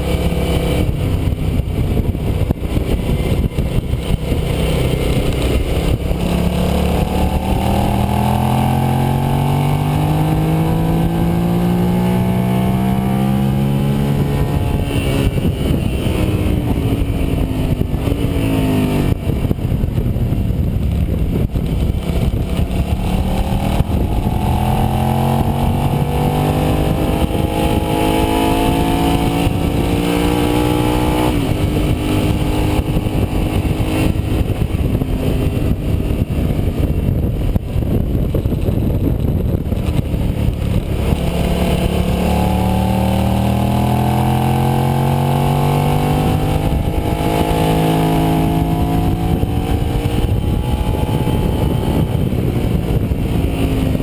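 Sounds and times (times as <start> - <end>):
motorcycle engine accelerating: 0.0 - 54.0
wind rush: 0.0 - 54.0.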